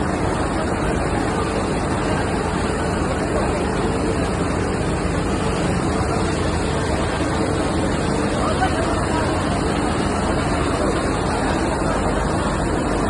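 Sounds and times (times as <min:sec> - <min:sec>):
floodwater rushing: 0:00.0 - 0:13.0
heavy rain: 0:00.0 - 0:13.0.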